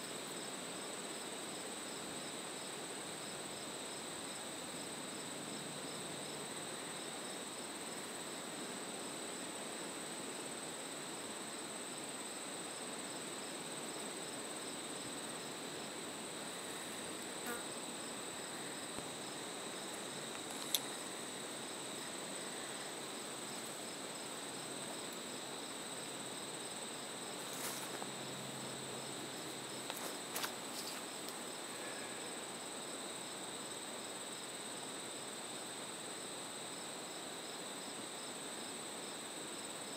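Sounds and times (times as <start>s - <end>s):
insects trilling: 0.0s - 39.9s
pulsing insect song: 0.0s - 39.9s.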